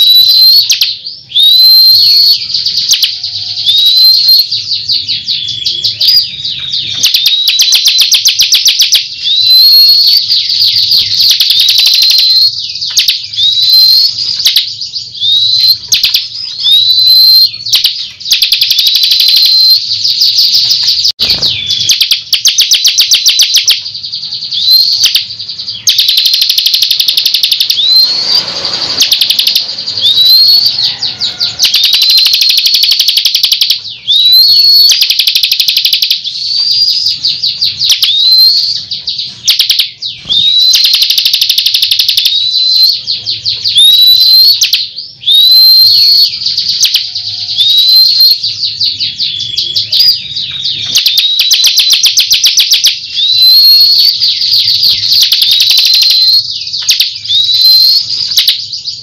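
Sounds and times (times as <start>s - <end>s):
bird singing trills and whistles: 0.0s - 59.0s.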